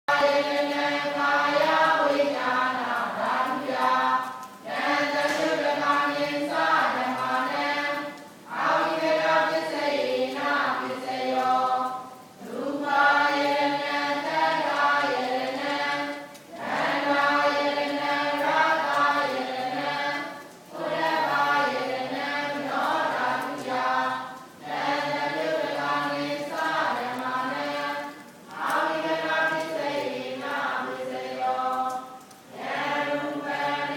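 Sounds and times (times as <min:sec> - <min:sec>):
group chanting together: 0:00.1 - 0:33.9.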